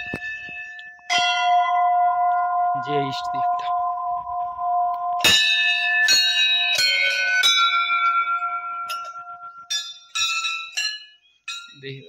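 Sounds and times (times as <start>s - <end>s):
temple bells ringing: 0.0s - 12.0s.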